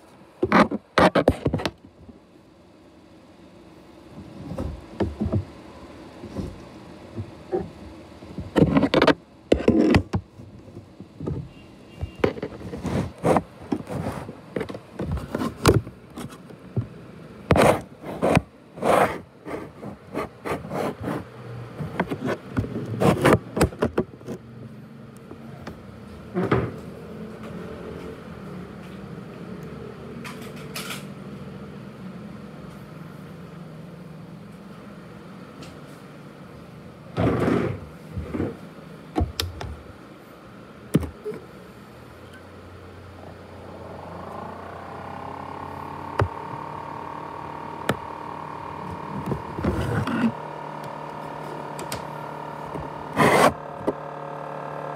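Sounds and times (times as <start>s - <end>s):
laptop cooling fan whirring: 0.0s - 54.9s.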